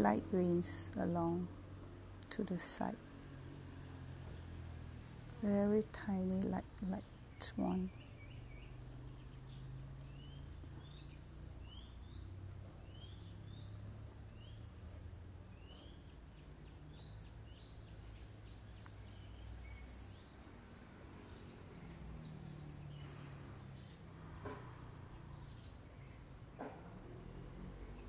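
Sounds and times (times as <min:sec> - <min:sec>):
low steady hum: 0:00.0 - 0:28.0
small birds chirping: 0:03.8 - 0:26.7.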